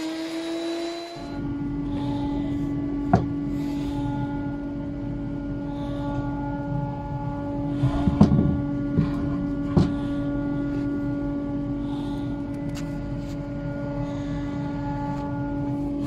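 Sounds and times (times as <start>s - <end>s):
workshop machine humming: 0.0s - 16.0s.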